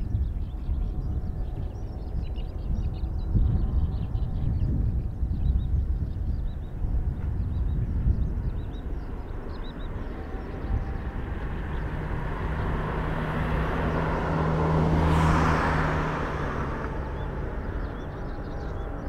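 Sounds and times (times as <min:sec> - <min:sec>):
jet airliner engines: 0:00.0 - 0:19.0.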